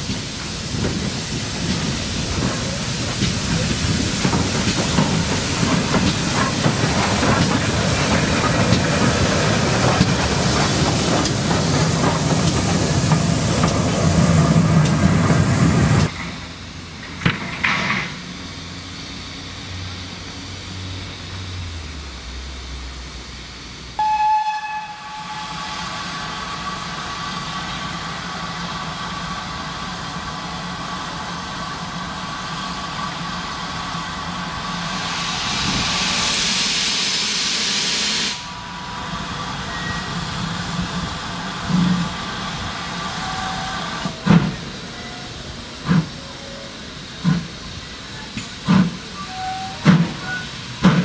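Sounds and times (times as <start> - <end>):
steam hissing: 0.0 - 17.0, 18.1 - 51.0
train rumble: 0.0 - 51.0.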